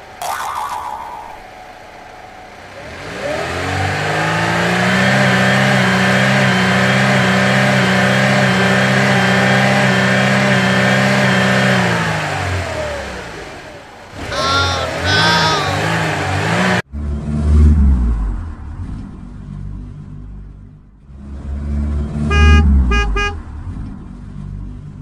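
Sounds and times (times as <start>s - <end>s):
vehicle engine revving: 2.6s - 25.0s.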